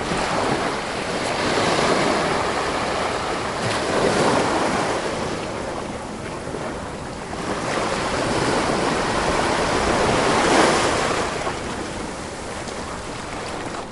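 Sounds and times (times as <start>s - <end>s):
waves washing onto shore: 0.0s - 13.9s.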